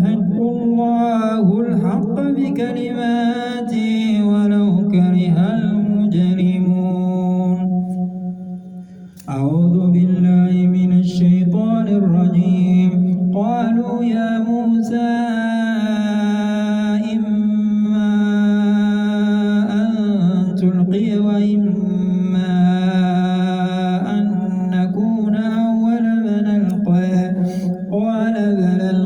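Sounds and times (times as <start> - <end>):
man chanting melodically: 0.0 - 29.0.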